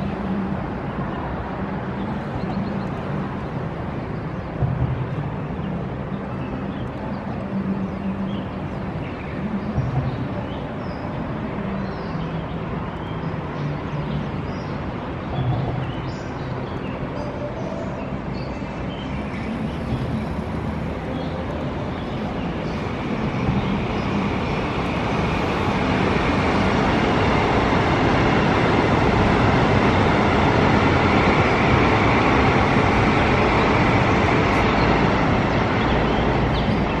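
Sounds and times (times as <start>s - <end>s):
electric train running past: 0.0s - 37.0s.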